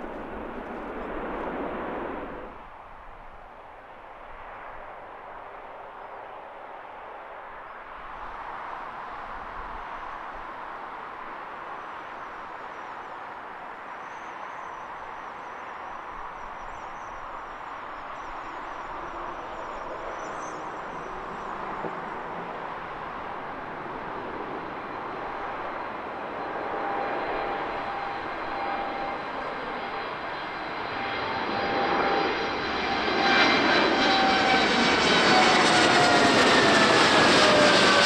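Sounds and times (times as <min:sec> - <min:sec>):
distant jet engine rush: 0:00.0 - 0:38.0
jet engine whine: 0:00.0 - 0:38.0.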